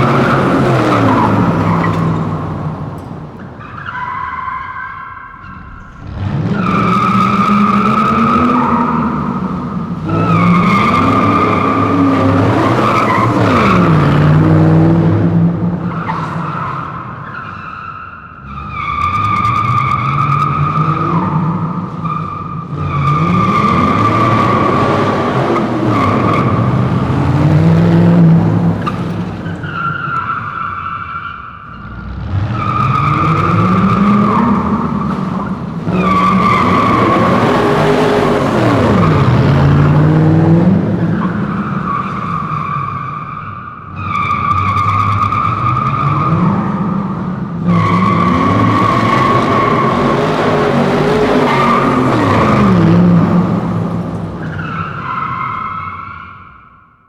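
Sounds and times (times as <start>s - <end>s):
car engine revving: 0.0s - 17.3s, 18.3s - 30.6s, 31.6s - 55.0s.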